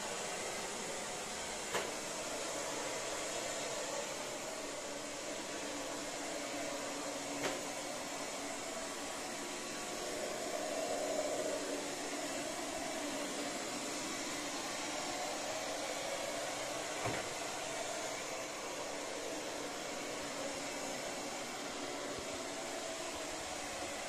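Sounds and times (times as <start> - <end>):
robot vacuum whirring: 0.0 - 24.0.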